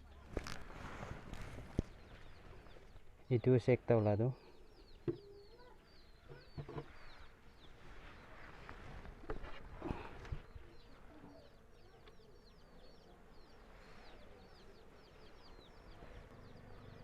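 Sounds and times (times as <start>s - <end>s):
small bird chirping: 1.3s - 17.0s.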